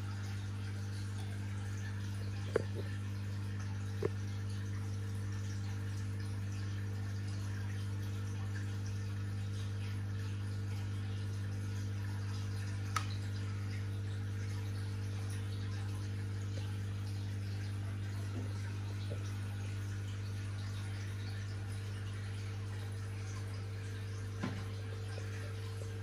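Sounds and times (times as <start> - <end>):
aquarium equipment humming: 0.0 - 26.0
water trickling and splashing: 0.0 - 26.0.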